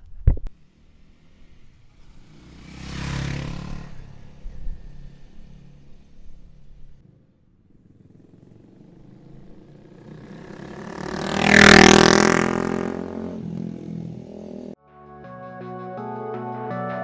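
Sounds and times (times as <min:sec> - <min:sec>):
motorcycle engine passing by: 0:00.5 - 0:14.8.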